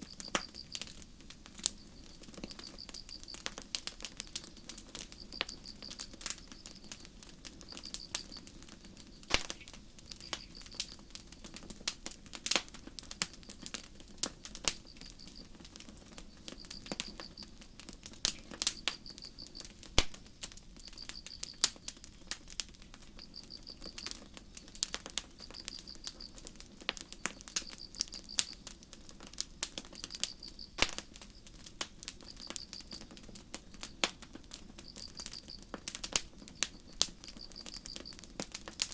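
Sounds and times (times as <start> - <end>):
crickets chirping: 0.0 - 11.4, 14.4 - 31.6, 32.2 - 34.0, 34.6 - 38.3
campfire crackling and popping: 0.0 - 38.9.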